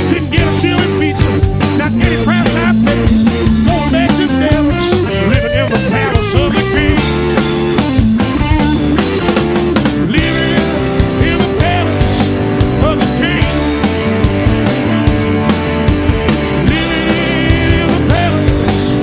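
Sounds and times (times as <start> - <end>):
electric guitar bending notes: 0.0 - 19.0
rock band playing: 0.0 - 19.0.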